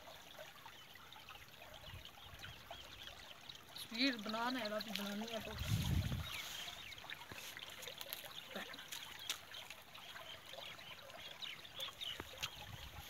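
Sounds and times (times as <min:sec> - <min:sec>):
water trickling in a ditch: 0:00.0 - 0:13.0.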